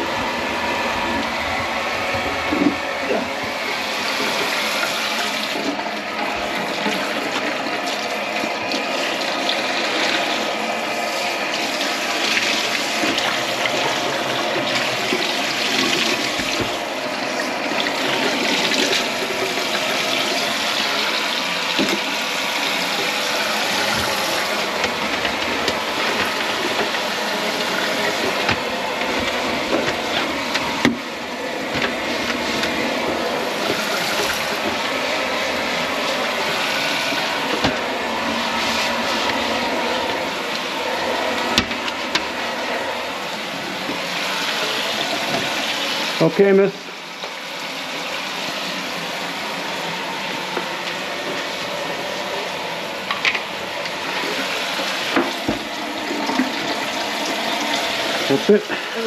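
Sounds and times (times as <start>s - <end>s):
mechanical hum: 0.0s - 59.0s
water running into sink: 0.0s - 59.0s.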